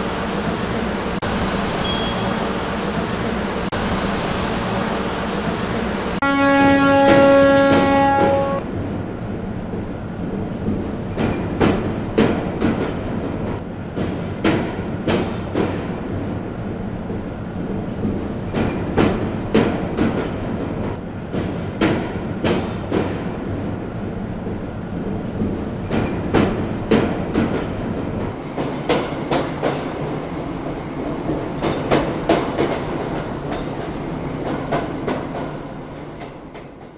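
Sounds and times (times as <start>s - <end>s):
train rumble: 0.0s - 36.9s.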